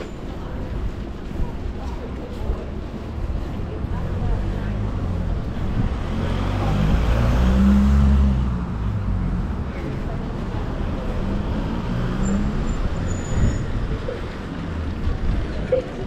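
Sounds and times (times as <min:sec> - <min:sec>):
outdoor noise: 0:00.0 - 0:16.0.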